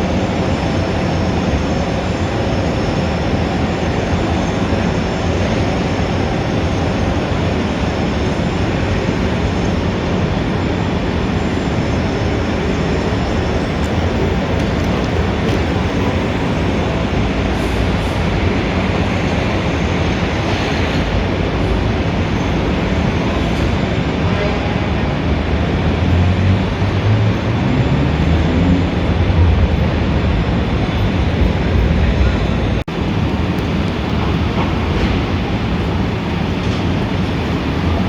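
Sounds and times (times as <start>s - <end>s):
engine and tyre noise: 0.0s - 38.0s
heavy vehicle engine rumble: 0.0s - 38.0s.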